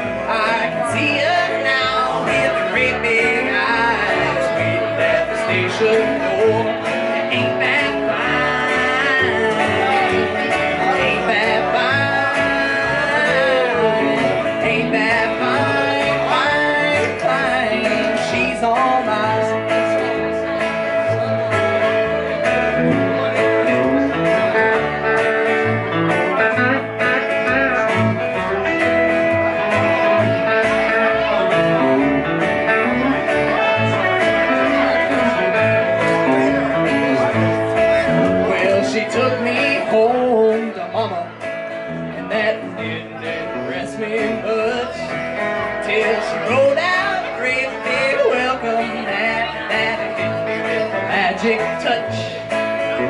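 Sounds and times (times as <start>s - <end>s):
country band playing: 0.0s - 53.0s
electric guitar lead with bent notes: 0.0s - 53.0s.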